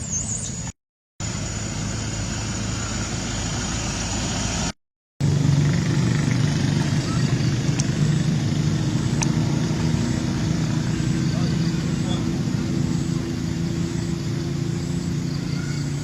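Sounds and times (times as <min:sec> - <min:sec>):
engine humming: 0:00.6 - 0:16.0.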